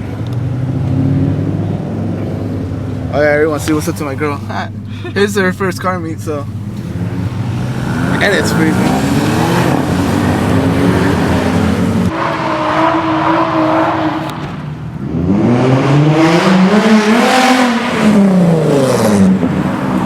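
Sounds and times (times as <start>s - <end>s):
car engine revving: 0.0s - 20.0s
car engines running: 0.0s - 20.0s.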